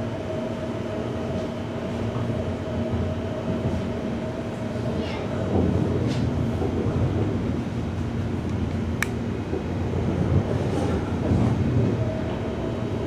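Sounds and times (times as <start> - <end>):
train running gear rumble: 0.0 - 13.0.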